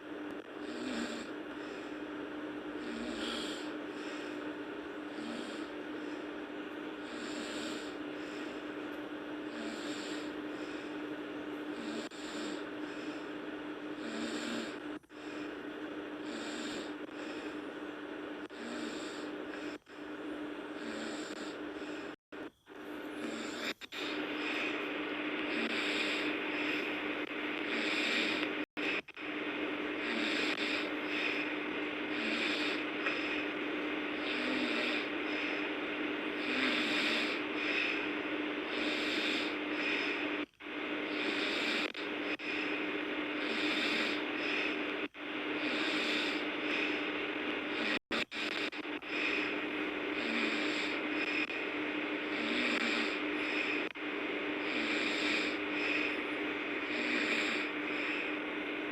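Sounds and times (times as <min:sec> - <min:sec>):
person snoring: 0:00.0 - 0:22.2, 0:23.0 - 0:58.9
steady low hum: 0:00.0 - 0:58.9.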